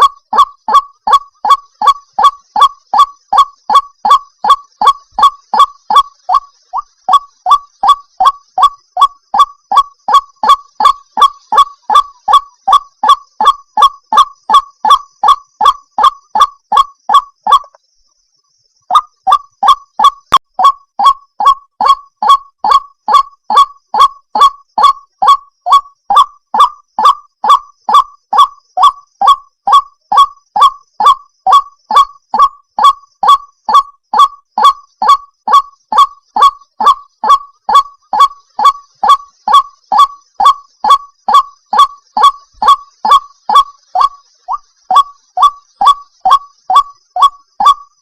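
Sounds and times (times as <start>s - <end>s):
waterhen calling: 0.0s - 17.8s, 18.9s - 48.0s.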